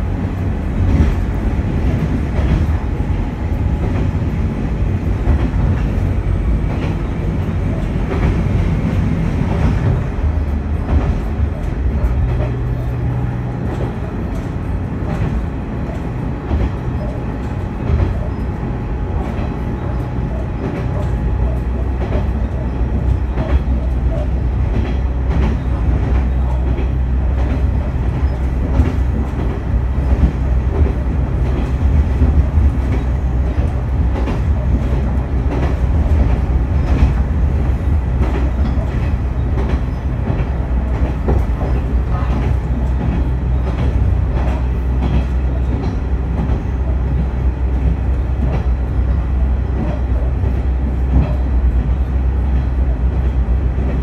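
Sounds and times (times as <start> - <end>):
diesel railcar engine drone: 0.0 - 54.0
wheels clicking over rail joints: 0.0 - 54.0.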